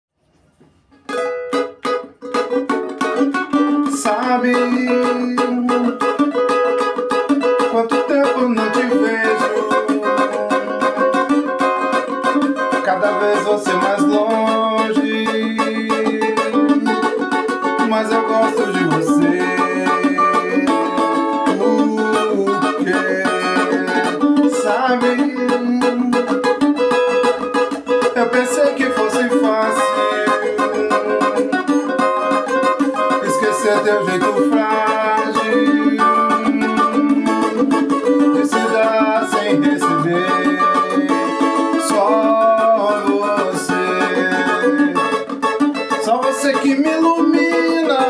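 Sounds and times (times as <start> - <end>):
plucked string instrument strumming: 0.3 - 48.0
man singing: 2.3 - 48.0.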